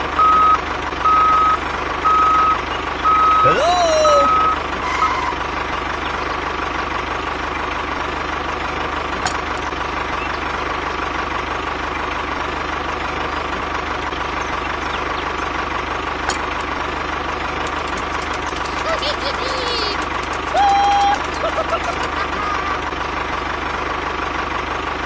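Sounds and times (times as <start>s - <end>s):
engine idling hum: 0.0s - 25.0s.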